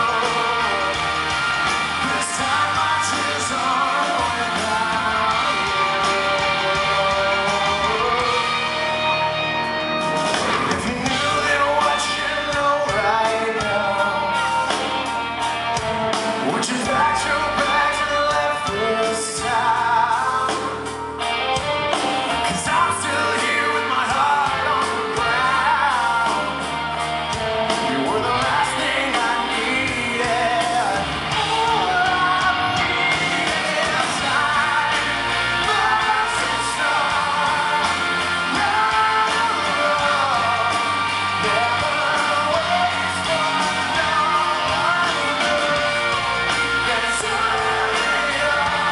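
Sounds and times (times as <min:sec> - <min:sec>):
man singing lead vocals: 0:00.0 - 0:09.7, 0:10.4 - 0:48.9
live rock band playing: 0:00.0 - 0:48.9.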